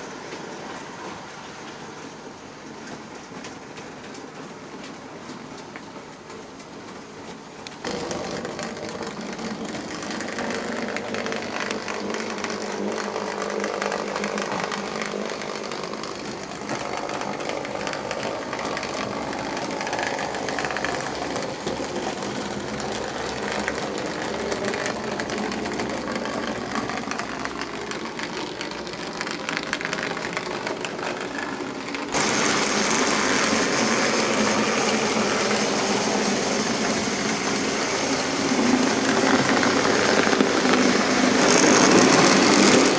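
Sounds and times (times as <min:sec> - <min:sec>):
wheels rattling over rails: 0:00.0 - 0:42.9
regular clicking: 0:02.9 - 0:42.9.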